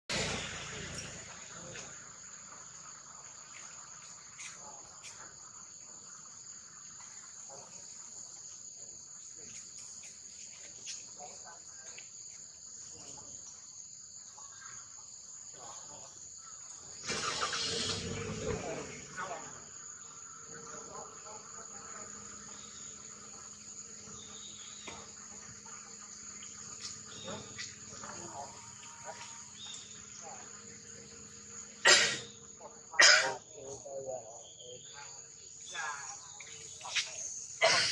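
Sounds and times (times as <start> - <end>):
insects droning: 0.1 - 37.9.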